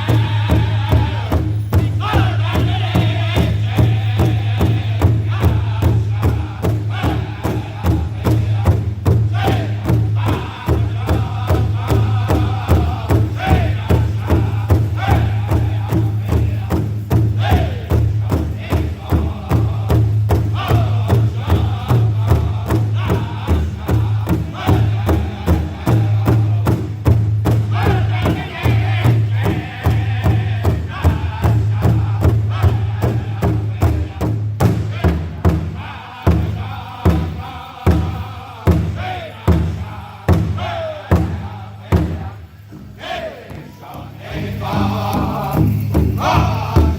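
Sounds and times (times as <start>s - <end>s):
group chanting song: 0.0s - 46.9s
large drum steady beat: 0.0s - 46.9s.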